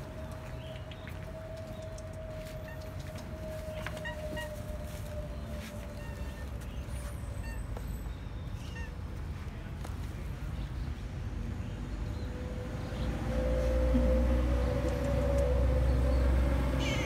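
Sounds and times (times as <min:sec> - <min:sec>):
low outdoor background rumble: 0:00.0 - 0:17.0.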